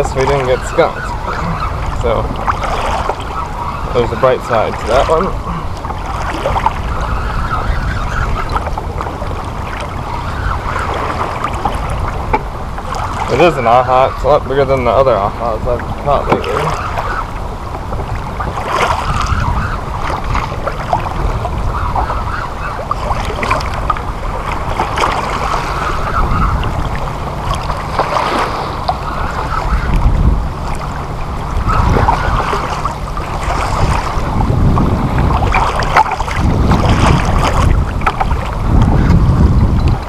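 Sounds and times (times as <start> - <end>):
waves splashing against kayak hull: 0.0 - 40.0
wind buffeting microphone: 0.0 - 40.0.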